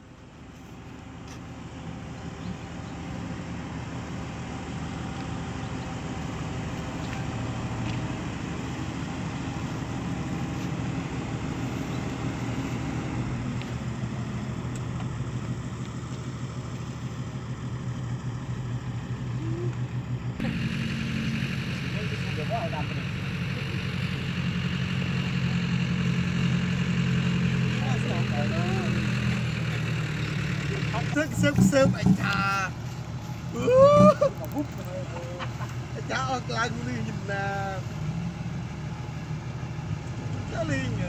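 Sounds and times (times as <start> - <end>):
excavator diesel engine idling: 0.0 - 41.0.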